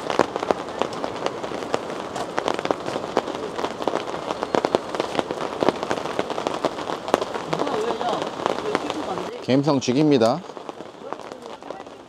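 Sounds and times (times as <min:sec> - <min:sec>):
rain on a tarp: 0:00.0 - 0:12.0.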